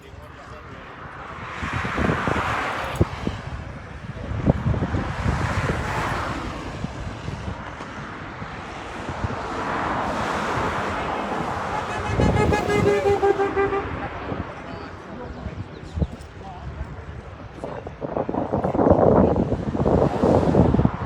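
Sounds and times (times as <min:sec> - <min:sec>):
rushing surges of noise: 0:00.0 - 0:21.0
wind buffeting the microphone: 0:00.0 - 0:21.0.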